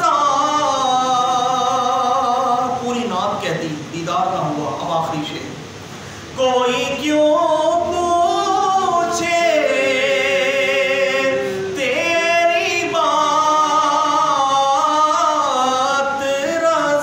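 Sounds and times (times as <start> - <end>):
man singing unaccompanied: 0.0 - 3.6, 6.4 - 17.0.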